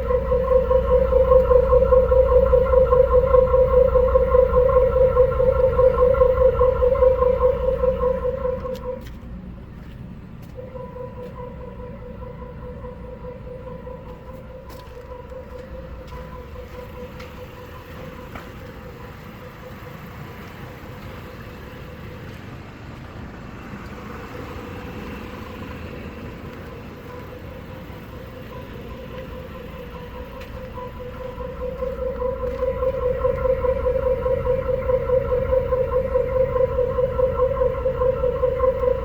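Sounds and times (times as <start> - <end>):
moaning tone from tailpipe: 0.0 - 9.2, 10.5 - 21.3, 25.4 - 39.0
car exhaust rumbling: 0.0 - 39.0.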